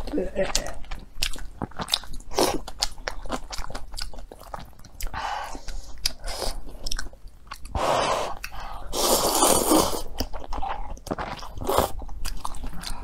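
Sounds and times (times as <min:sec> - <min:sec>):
chewing and crunching food: 0:00.0 - 0:13.0.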